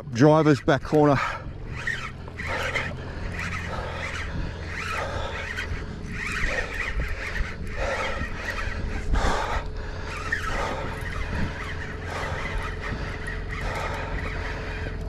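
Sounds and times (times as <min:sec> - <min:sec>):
fishing reel drag squealing: 0:00.0 - 0:15.0.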